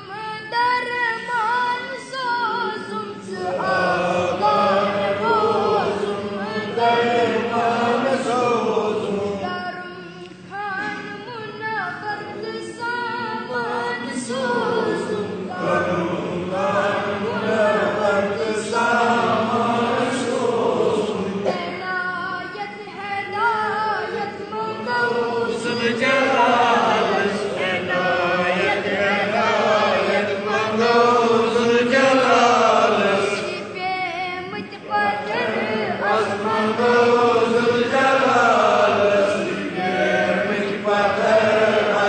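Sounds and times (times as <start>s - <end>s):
child singing a hymn: 0.0s - 42.0s.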